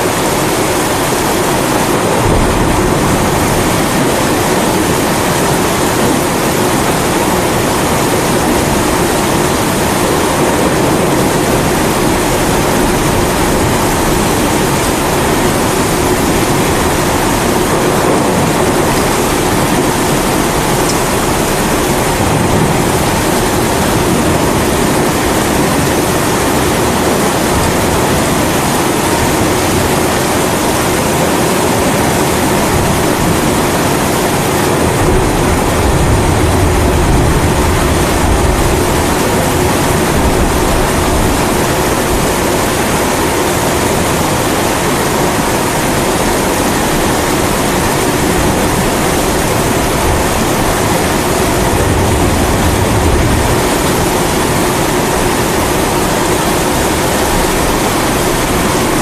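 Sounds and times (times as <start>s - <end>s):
low thunder rumbles: 0.0s - 59.0s
rain rushing: 0.0s - 59.0s.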